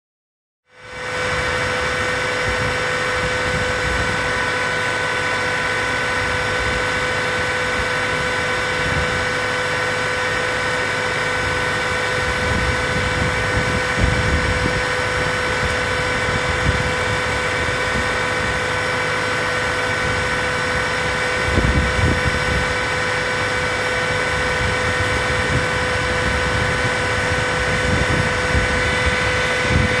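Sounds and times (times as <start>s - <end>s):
combine harvester whine: 0.7s - 30.0s
wind buffeting microphone: 1.1s - 5.2s, 5.8s - 30.0s.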